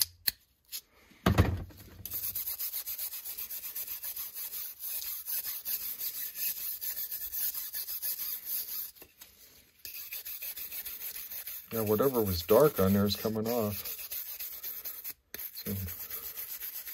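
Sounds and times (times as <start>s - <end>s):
wire brush scrubbing metal: 2.1s - 9.1s, 9.8s - 16.9s.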